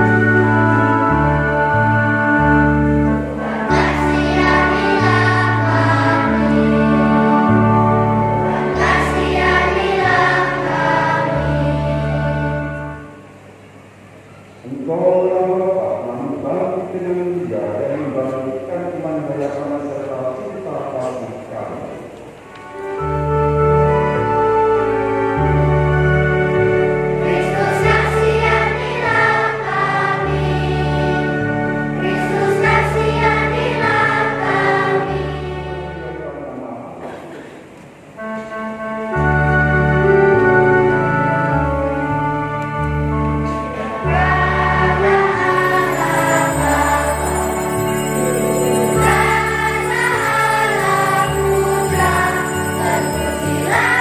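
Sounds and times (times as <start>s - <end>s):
children's choir singing a hymn: 0.0s - 13.3s, 22.8s - 37.2s, 38.2s - 54.0s
keyboard accompaniment: 0.0s - 54.0s.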